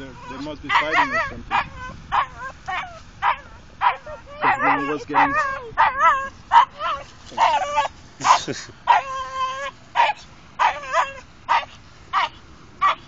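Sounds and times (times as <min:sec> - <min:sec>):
dog whining and yipping: 0:00.0 - 0:13.0.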